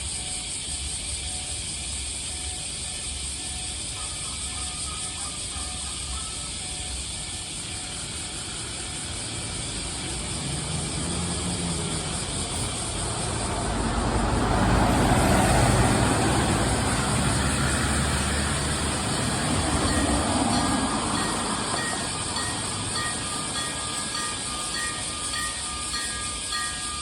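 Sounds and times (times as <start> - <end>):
tram passing: 0.0 - 27.0
crossing warning signal tone: 0.1 - 27.0.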